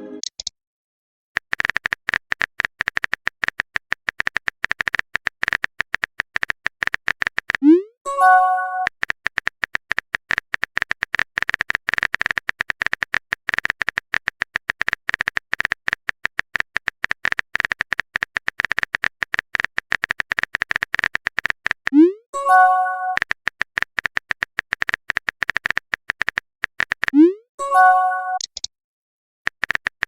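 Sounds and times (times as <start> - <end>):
phone keyboard typing clicks: 0.2 - 0.5, 1.4 - 27.3, 28.4 - 28.7, 29.5 - 30.0.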